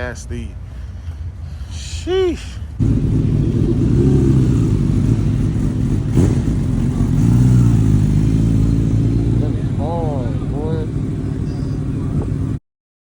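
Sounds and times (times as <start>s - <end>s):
vehicle engine rumbling: 0.0s - 12.6s.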